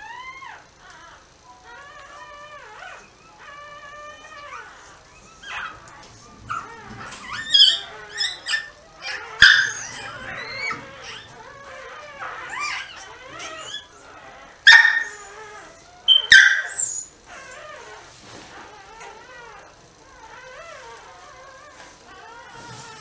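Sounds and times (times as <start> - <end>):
puppy squeaking and whimpering: 0.0 - 23.0.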